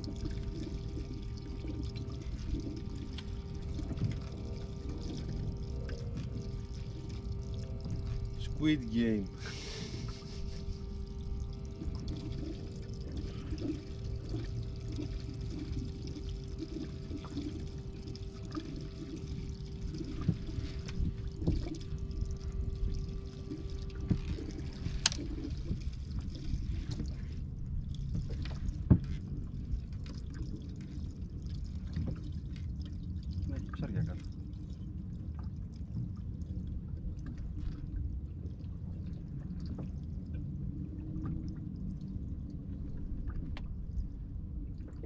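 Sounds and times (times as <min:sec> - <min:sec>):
steady hum: 0:00.0 - 0:45.0
water sloshing and trickling: 0:00.0 - 0:45.0.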